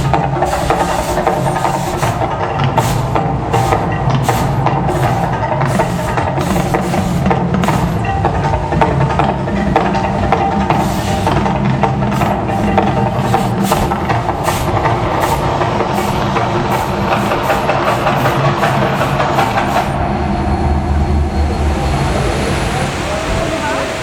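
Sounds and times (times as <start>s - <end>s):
rhythmic drumming: 0.0s - 20.0s.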